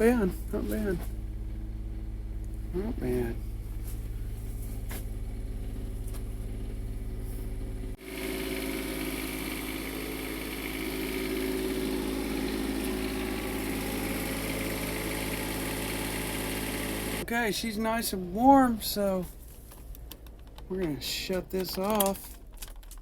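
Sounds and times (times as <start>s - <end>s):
diesel generator running: 0.0s - 20.2s.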